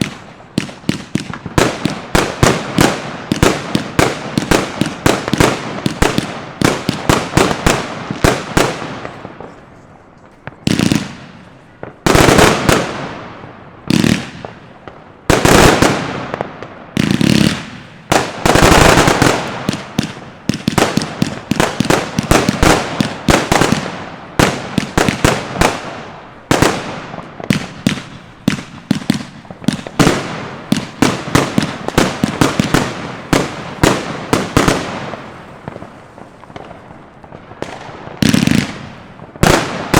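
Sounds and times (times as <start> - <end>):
firework aerial bangs and crackle: 0.0 - 39.9.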